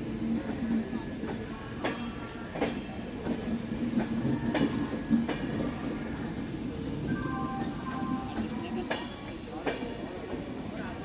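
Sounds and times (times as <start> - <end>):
rumble of wheels on rail: 0.0 - 11.0.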